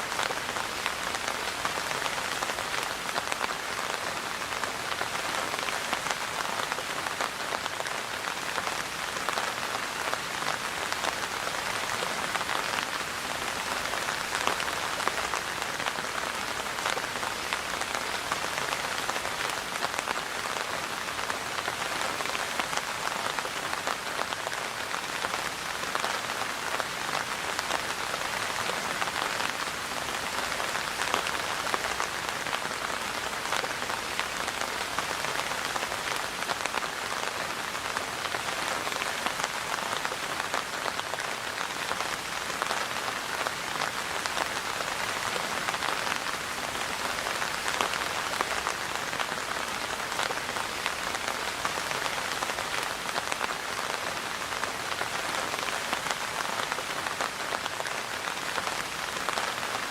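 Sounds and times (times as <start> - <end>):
rain pattering on a surface: 0.0 - 59.9.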